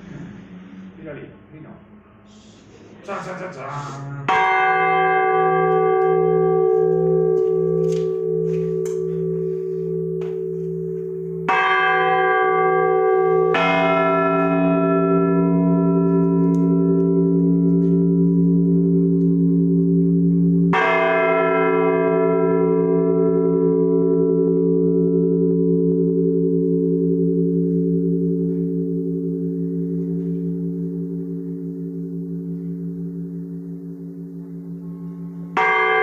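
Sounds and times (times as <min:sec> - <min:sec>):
church bell tolling: 0:04.2 - 0:36.0.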